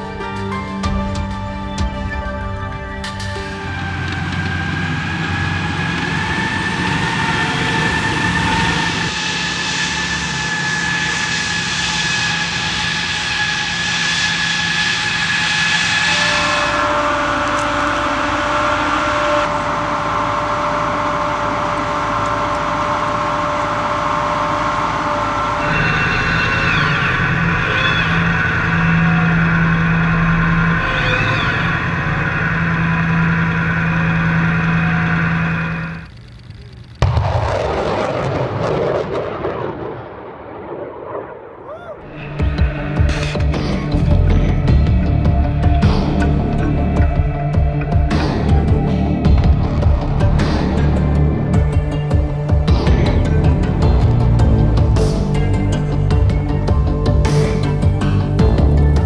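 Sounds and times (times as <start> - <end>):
tracked vehicle engine and tracks: 0.0 - 40.1, 41.6 - 59.0.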